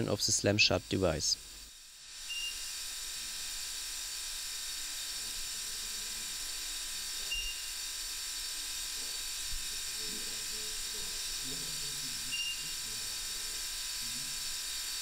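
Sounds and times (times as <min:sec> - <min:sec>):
gas hissing through pipes: 0:00.0 - 0:15.0.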